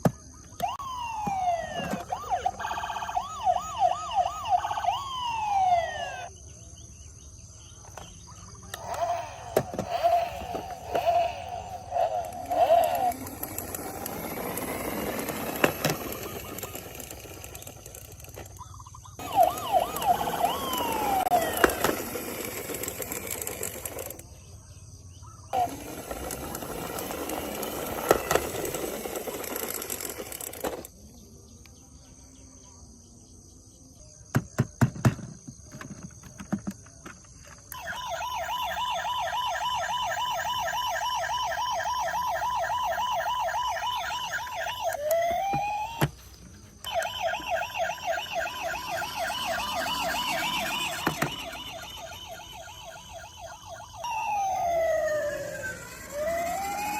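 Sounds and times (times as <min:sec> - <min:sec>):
electronic toy siren: 0:00.2 - 0:06.3, 0:08.7 - 0:24.2, 0:25.5 - 0:30.9, 0:37.7 - 0:56.9
rapidly warbling toy siren: 0:00.2 - 0:06.3, 0:08.5 - 0:24.2, 0:25.5 - 0:30.9, 0:37.7 - 0:56.9.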